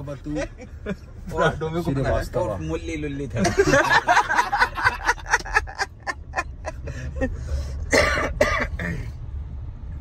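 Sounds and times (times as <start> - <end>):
car engine rumble: 0.0 - 10.0
road noise: 0.0 - 10.0.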